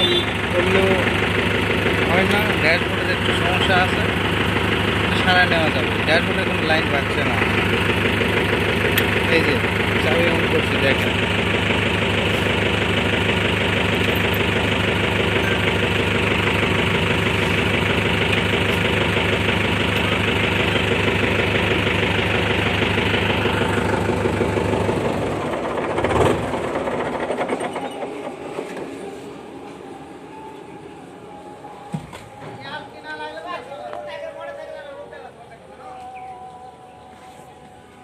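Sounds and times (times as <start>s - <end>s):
engine shutting off with clunk: 0.0s - 32.9s
tractor diesel engine idling: 0.0s - 35.8s.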